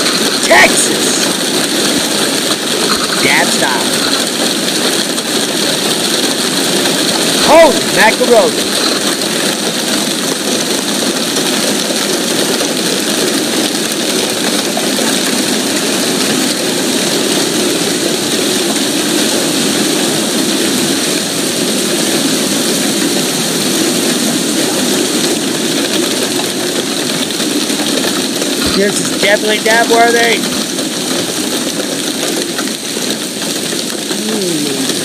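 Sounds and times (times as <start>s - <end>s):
hail and rain pelting: 0.0s - 35.0s.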